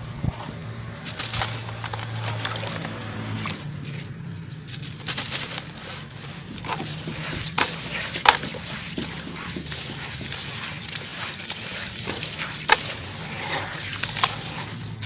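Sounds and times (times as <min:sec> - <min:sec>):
clumps crackling in water: 0:00.0 - 0:15.0.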